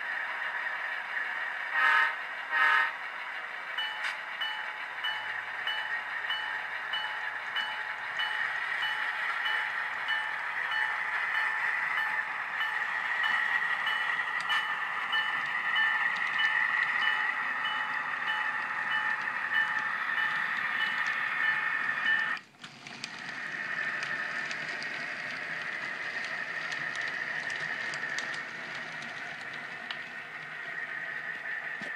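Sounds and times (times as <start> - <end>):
model train wheels on track: 0.0 - 31.9.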